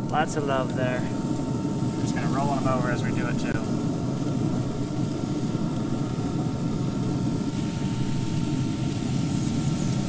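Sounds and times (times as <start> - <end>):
faint even hum: 0.0 - 10.0
low mechanical drone: 0.0 - 10.0.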